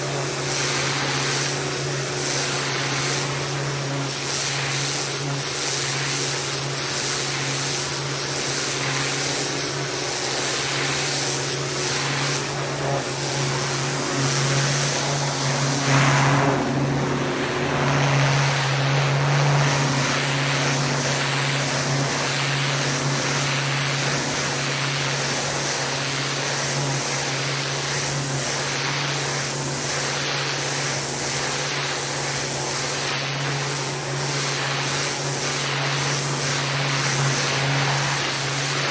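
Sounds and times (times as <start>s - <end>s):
pressure washer motor drone: 0.0s - 38.9s
water spray hissing: 0.4s - 38.9s.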